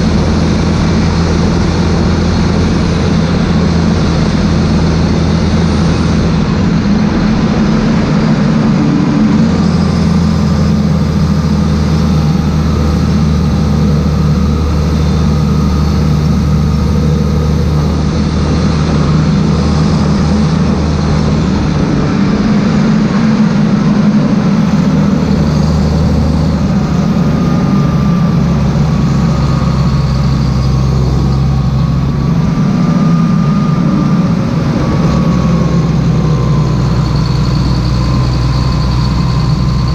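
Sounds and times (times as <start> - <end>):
faint engine whine: 0.0 - 39.9
tractor diesel engine running: 0.0 - 39.9.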